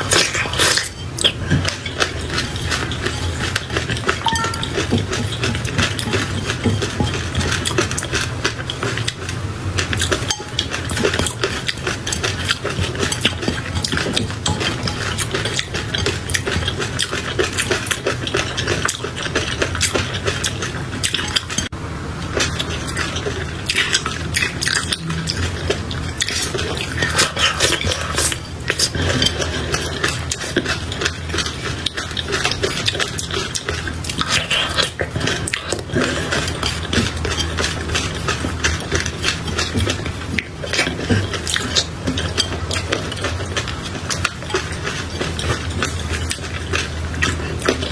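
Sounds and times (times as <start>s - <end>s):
wet chewing and mouth clicks: 0.0s - 21.7s, 22.3s - 47.9s.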